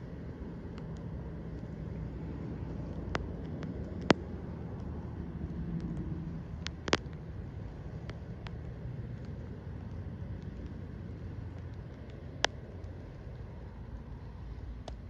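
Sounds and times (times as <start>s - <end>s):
faint ticks: 0.0s - 15.0s
low outdoor rumble: 0.0s - 15.0s
sharp clicks: 0.6s - 15.0s.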